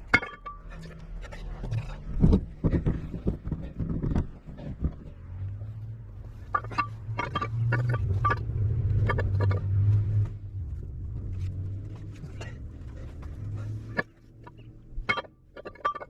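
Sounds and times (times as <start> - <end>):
metallic clanks and knocks: 0.0 - 5.2, 6.4 - 10.4, 11.4 - 16.0
engine humming: 0.0 - 16.0.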